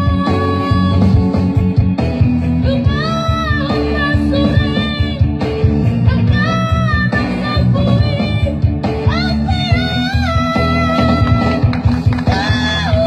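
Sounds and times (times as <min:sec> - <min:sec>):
band with guitar playing: 0:00.0 - 0:13.0.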